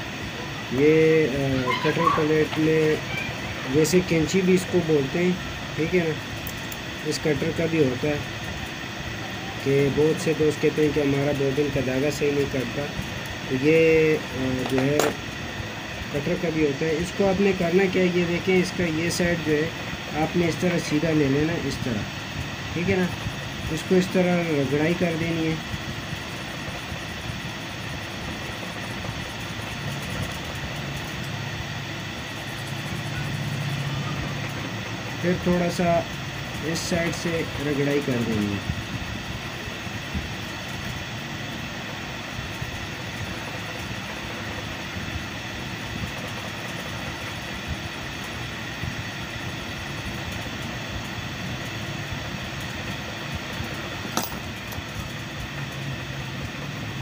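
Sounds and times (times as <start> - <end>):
steady low hum: 0.0 - 57.0
steady mechanical noise: 0.0 - 57.0.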